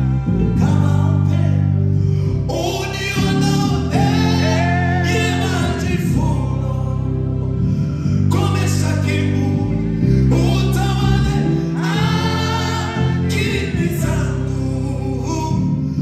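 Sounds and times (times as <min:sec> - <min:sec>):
keyboard chords and bass notes: 0:00.0 - 0:16.0
man singing into a microphone: 0:00.0 - 0:16.0.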